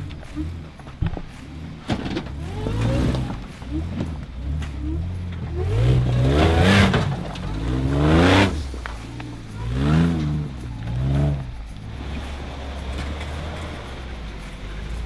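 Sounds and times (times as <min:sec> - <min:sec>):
off-road car engine revving: 0:00.0 - 0:15.0.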